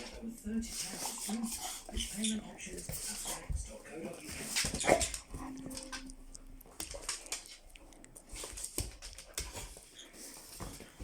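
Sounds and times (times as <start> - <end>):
dog paws tapping and clicking: 0.0 - 11.0.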